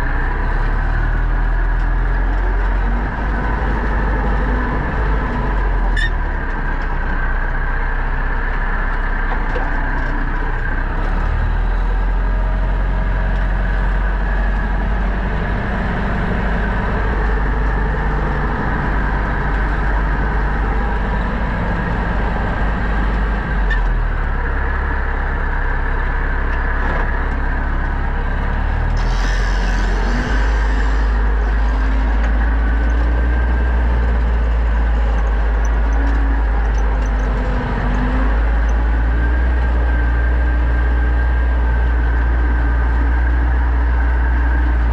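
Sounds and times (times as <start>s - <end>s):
tractor engine under load: 0.0s - 44.9s.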